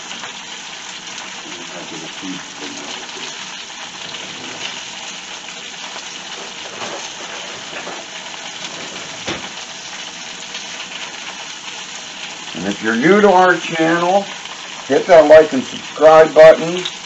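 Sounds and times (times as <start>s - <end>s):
spinach sizzling in a frying pan: 0.0s - 17.0s.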